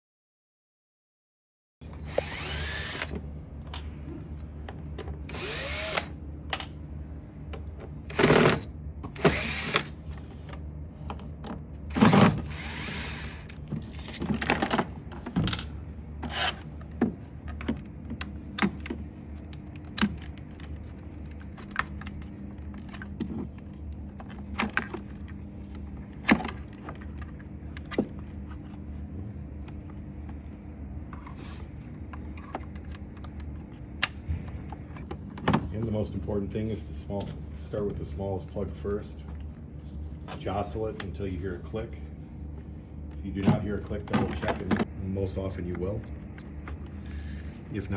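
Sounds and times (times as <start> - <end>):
steady low hum: 1.8 - 47.9.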